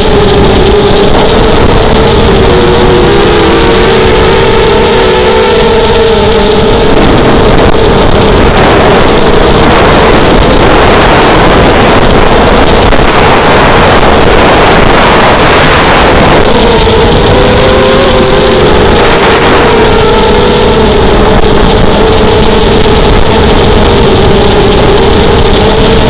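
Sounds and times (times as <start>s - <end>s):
quadcopter motors and propellers: 0.0s - 26.0s
whining tone wavering in pitch: 0.0s - 26.0s
wind rushing: 0.0s - 26.0s.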